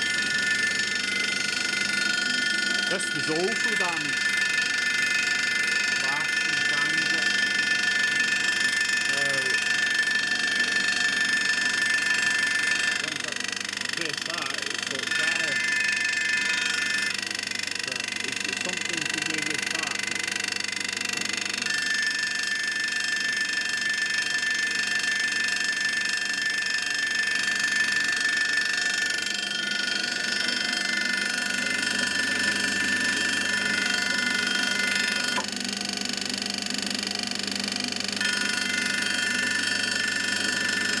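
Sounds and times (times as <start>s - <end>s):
pillar drill high-pitched whine: 0.0s - 41.0s.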